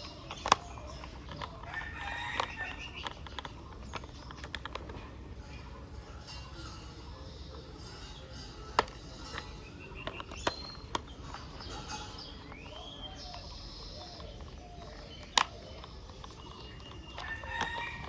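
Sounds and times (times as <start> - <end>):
plastic toy parts clicking: 0.0 - 5.5, 8.0 - 18.0.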